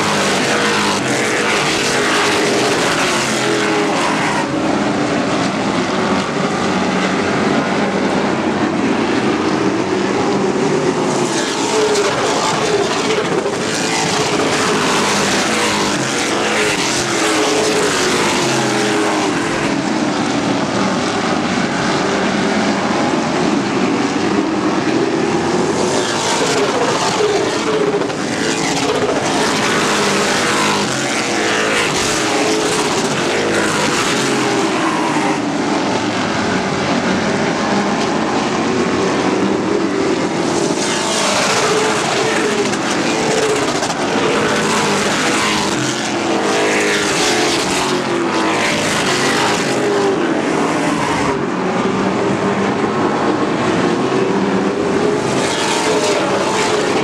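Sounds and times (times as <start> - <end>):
race truck engines: 0.0 - 57.0.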